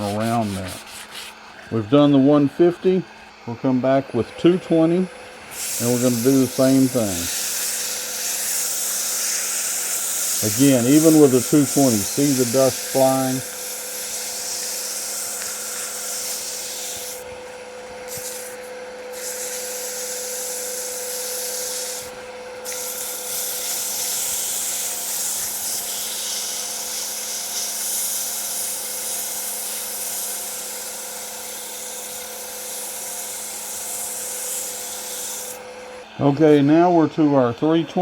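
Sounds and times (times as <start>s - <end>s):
sandpaper hissing on spinning wood: 0.0s - 2.8s, 4.2s - 36.7s
lathe motor hum: 0.0s - 38.0s.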